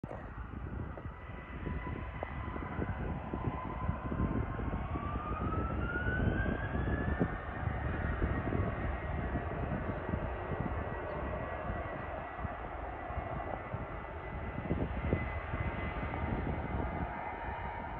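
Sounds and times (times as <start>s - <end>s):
jet engines spooling up: 0.1s - 17.9s.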